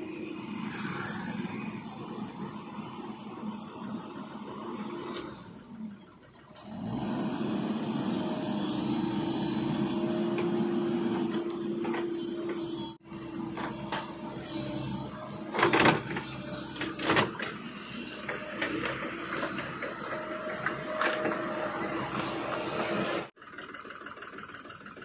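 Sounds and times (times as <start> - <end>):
excavator engine and hydraulic hum: 0.0 - 25.0.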